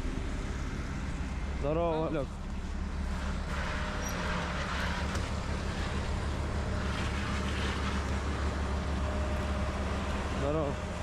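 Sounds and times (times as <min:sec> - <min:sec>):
fire engine drone: 0:00.0 - 0:11.0.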